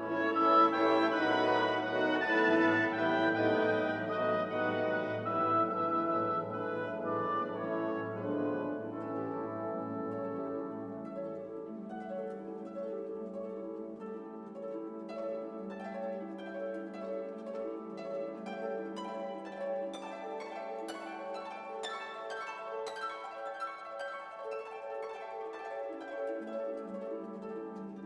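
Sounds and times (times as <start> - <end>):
orchestral music with harp: 0.0 - 28.0.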